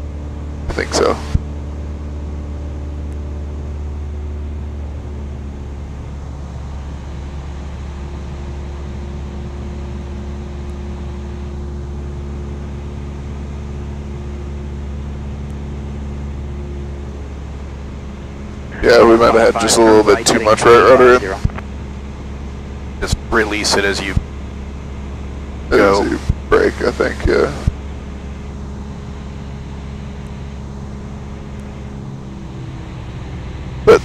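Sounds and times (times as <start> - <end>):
light airplane engine droning: 0.0 - 34.0.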